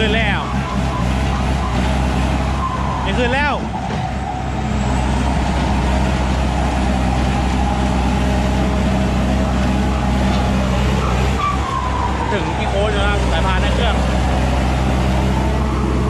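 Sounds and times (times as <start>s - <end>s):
harvester engine running hard: 0.0s - 16.0s.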